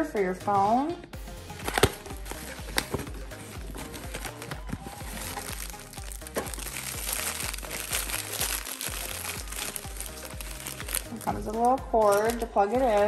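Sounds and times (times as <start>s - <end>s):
background music with bass: 0.0s - 13.0s
bubble wrap crinkling: 1.5s - 13.0s.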